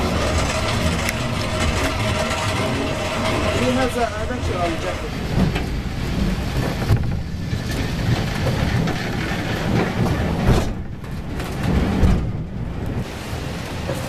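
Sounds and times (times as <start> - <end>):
wheels rumbling on rails: 0.0 - 14.0.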